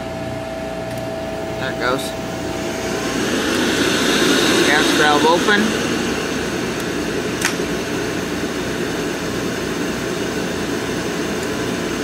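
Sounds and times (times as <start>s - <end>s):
boiler blower running: 0.0s - 12.0s.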